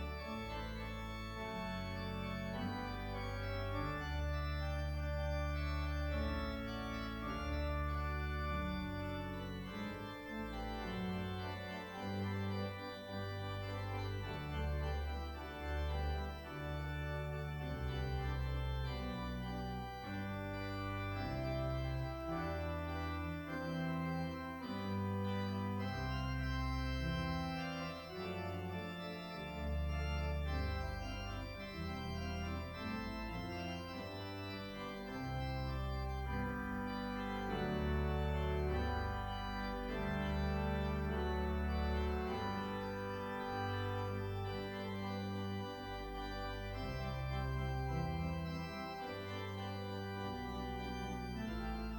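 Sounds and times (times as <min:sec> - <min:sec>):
organ music: 0:00.0 - 0:51.9.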